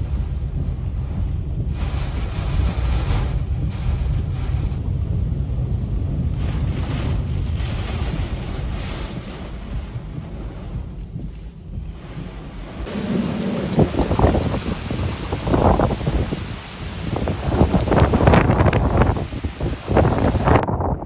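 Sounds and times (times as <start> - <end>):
hurricane wind gusting: 0.0 - 21.0
wind buffeting microphone: 0.0 - 21.0.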